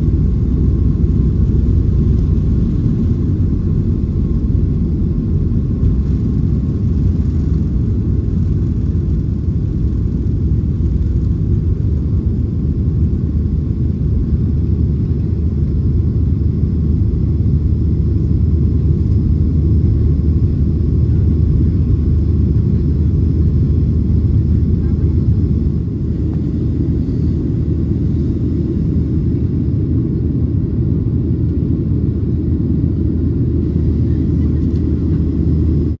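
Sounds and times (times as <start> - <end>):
faint high engine whine: 0.0 - 36.0
jet engines low rumble: 0.0 - 36.0.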